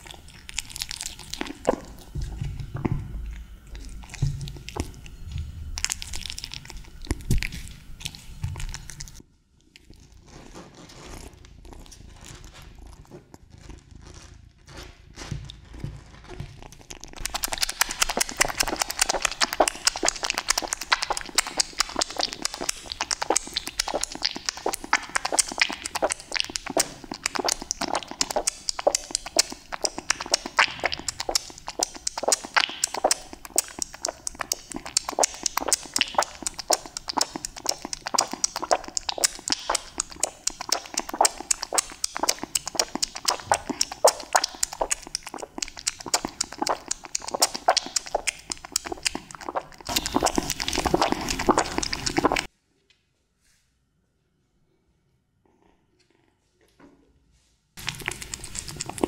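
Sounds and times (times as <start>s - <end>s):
cat chewing and lapping: 0.0s - 14.2s, 14.8s - 52.5s, 57.8s - 59.0s.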